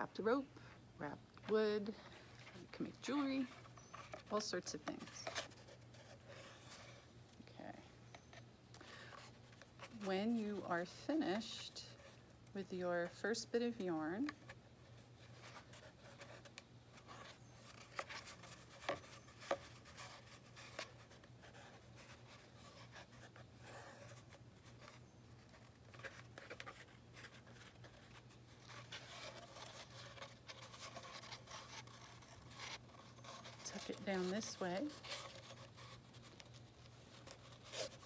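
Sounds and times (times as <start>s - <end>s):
low steady hum: 0.0s - 38.0s
yarn rustling on cardboard tube: 0.0s - 38.0s.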